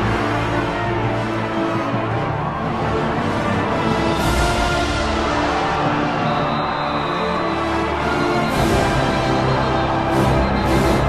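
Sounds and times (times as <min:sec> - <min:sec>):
soundtrack music with sustained tones: 0:00.0 - 0:11.0.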